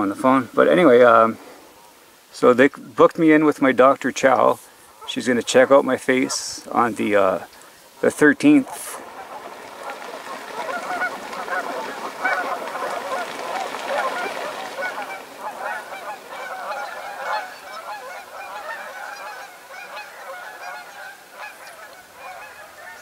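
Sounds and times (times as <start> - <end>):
geese honking: 4.2 - 23.0.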